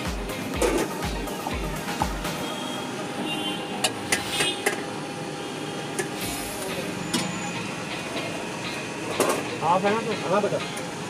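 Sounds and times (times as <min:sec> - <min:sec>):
street background hum: 0:00.0 - 0:11.0.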